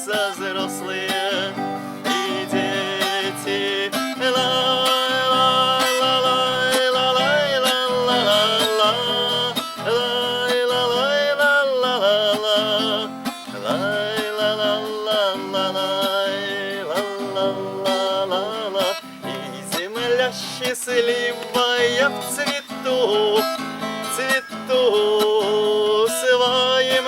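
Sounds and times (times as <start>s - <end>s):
guitar chords strummed: 0.0s - 27.0s.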